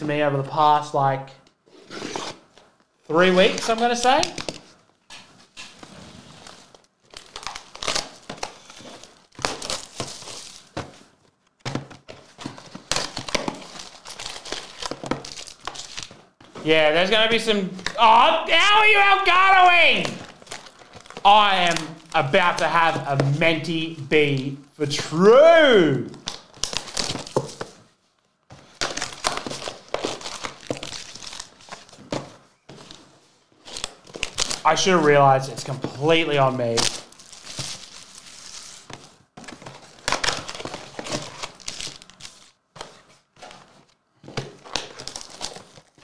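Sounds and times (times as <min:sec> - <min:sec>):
plastic wrappers crinkling: 0:03.1 - 0:23.7, 0:26.1 - 0:46.0.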